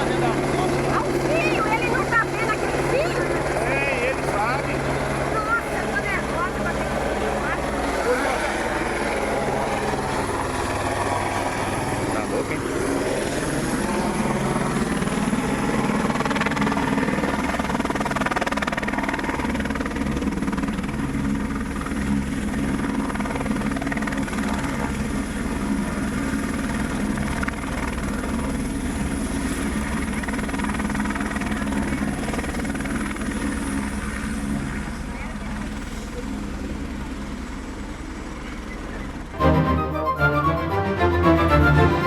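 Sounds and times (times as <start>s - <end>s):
helicopter rotor beating: 0.0s - 42.0s.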